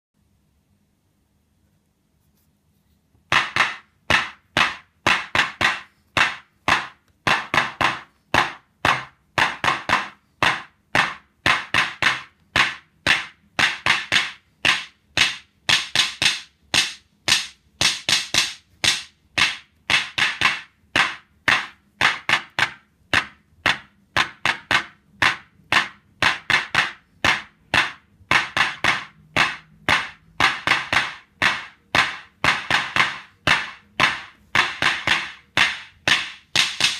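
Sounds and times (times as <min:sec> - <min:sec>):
drumstick hitting a pad: 0:03.3 - 0:36.9.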